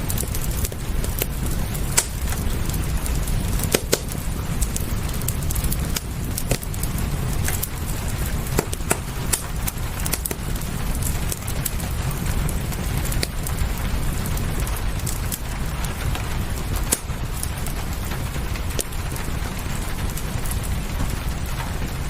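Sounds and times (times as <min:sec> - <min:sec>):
fireplace crackling and popping: 0:00.0 - 0:22.0
rain hiss: 0:00.0 - 0:22.0.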